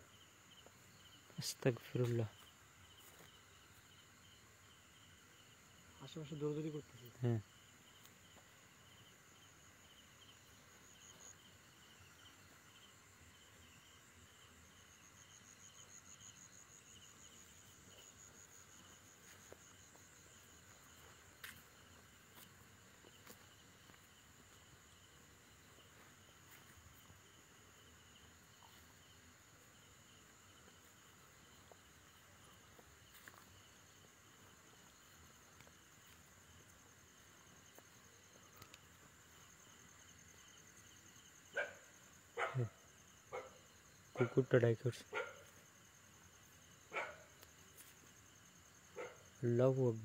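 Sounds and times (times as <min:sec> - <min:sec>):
high pulsing insect trill: 0:00.0 - 0:50.0
lower pulsing insect trill: 0:00.0 - 0:50.0.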